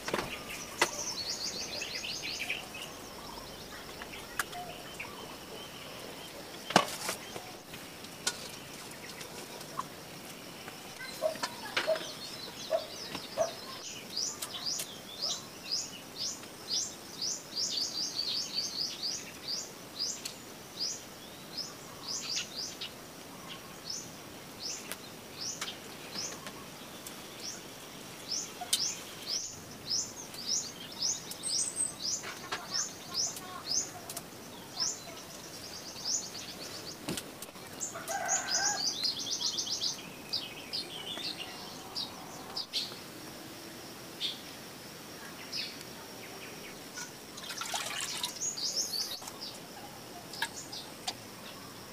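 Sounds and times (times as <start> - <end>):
bird chirping: 0.0 - 43.0, 45.2 - 51.9.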